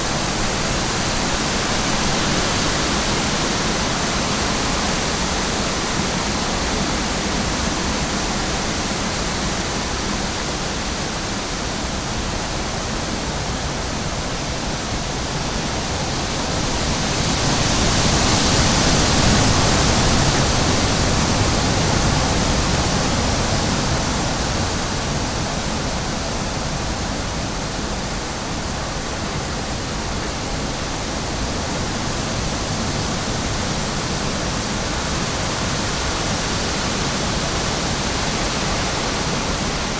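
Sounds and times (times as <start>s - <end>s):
rushing nature ambience: 0.0s - 39.9s.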